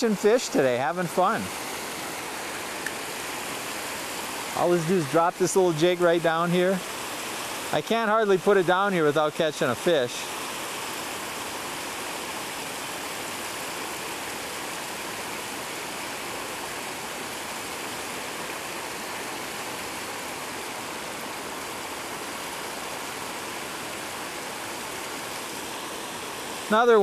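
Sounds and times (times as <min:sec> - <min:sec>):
running water rushing: 0:00.0 - 0:27.0.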